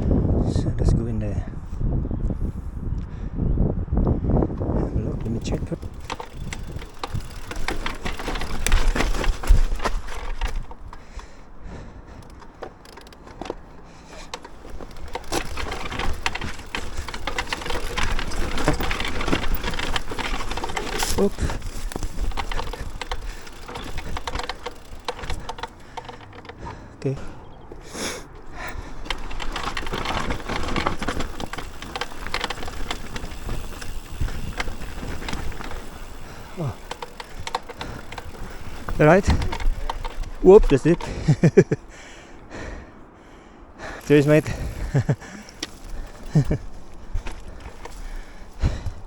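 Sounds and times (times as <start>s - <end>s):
mountain bike clattering over trail: 4.5s - 41.8s, 43.8s - 49.0s
tyres crackling over dirt: 4.5s - 42.8s, 43.8s - 49.0s.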